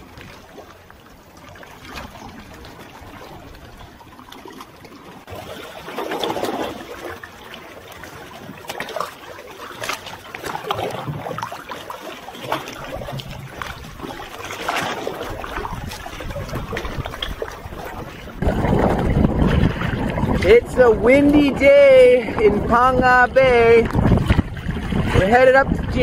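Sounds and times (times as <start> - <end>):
paddle blades splashing: 0.0 - 26.0
water lapping: 0.0 - 26.0.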